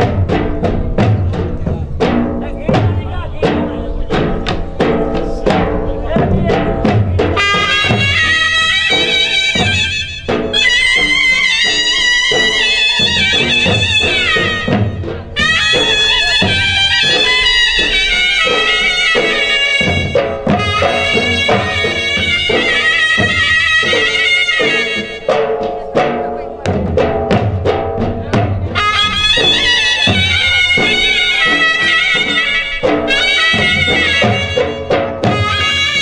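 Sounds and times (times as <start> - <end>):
drum strokes: 0.0 - 36.0
reedy wind instrument melody: 0.0 - 36.0.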